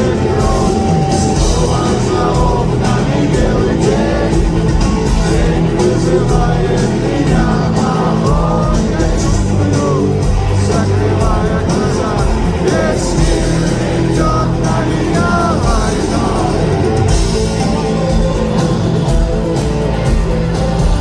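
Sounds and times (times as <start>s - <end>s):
person singing: 0.0s - 18.8s
rock band playing live: 0.0s - 21.0s.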